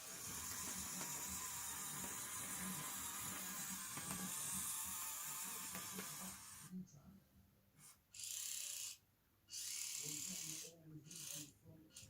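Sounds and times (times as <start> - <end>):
small electric motor whirring: 0.0 - 6.7, 8.2 - 12.0.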